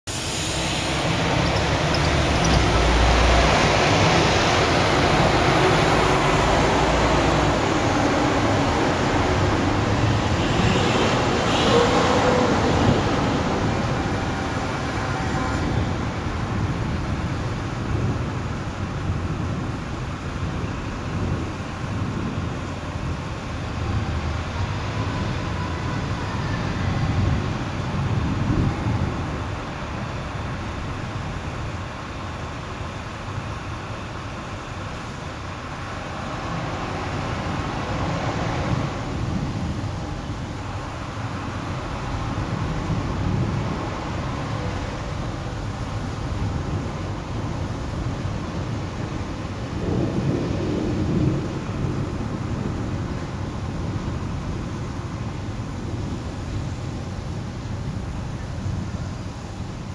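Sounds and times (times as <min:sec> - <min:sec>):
distant traffic hum: 0:00.1 - 0:59.9
vehicles passing: 0:00.1 - 0:59.9.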